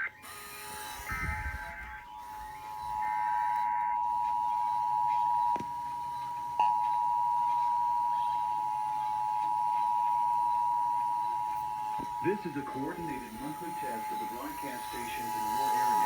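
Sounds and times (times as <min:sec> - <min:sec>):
warbling data burst: 0:00.0 - 0:16.0.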